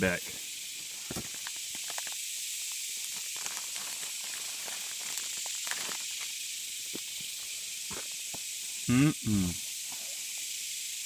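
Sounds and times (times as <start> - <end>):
cicada chorus drone: 0.0 - 11.0.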